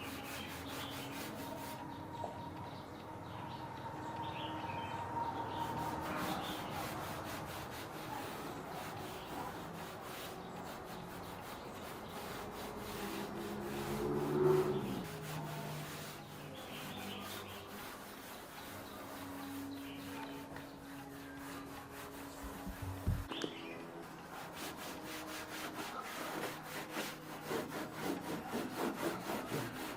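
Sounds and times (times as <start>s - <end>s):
rubbing against a surface: 0.0s - 2.0s, 5.5s - 23.4s, 24.1s - 29.9s.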